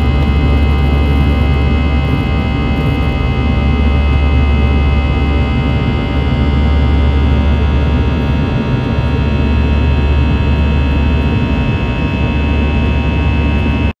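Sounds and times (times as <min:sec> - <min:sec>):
high whine of fan tones: 0:00.0 - 0:13.9
jet engines rumbling in cabin: 0:00.0 - 0:13.9.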